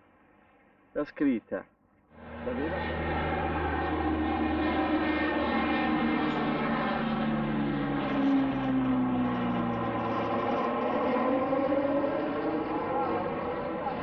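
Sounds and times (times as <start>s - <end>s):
aircraft engine passing: 2.1s - 14.0s.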